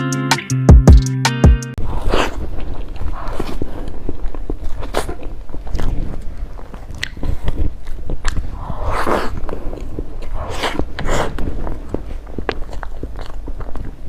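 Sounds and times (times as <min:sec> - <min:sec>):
person chewing food: 0:01.8 - 0:14.0.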